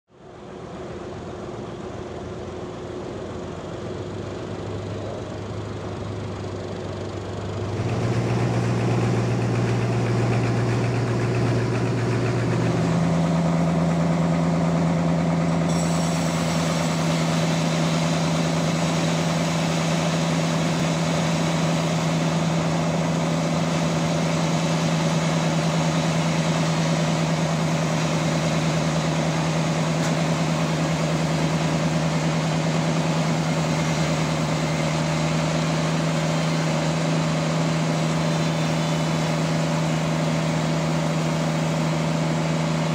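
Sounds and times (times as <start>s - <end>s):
sawmill engine humming: 0.2s - 42.9s.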